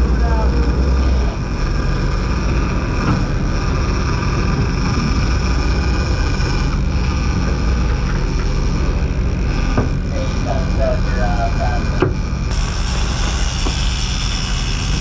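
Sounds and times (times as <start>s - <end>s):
boat engines droning: 0.0s - 15.0s
rushing boat wake: 0.0s - 15.0s.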